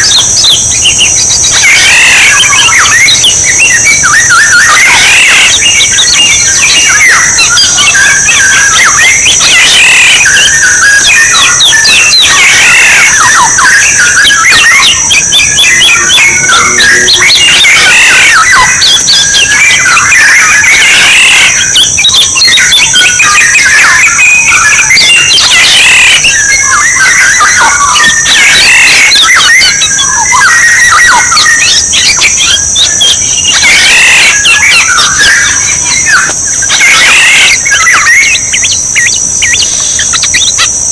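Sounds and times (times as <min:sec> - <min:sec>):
high-pitched drone: 0:00.0 - 0:40.9
orioles calling and singing: 0:00.0 - 0:40.9.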